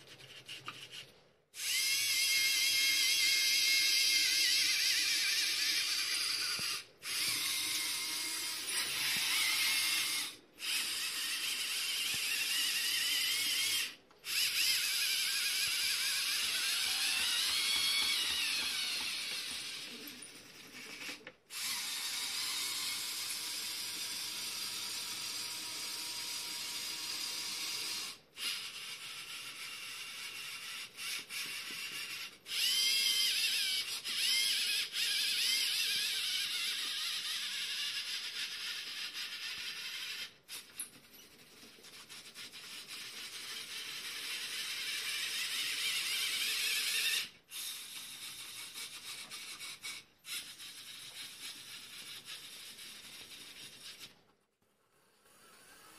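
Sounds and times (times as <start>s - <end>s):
small electric motors whirring: 0.0s - 55.9s.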